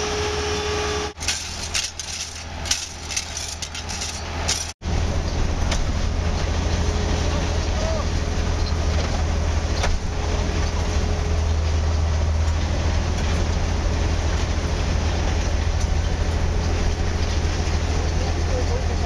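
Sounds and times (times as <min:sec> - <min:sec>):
diesel engine low hum: 0:00.0 - 0:19.0.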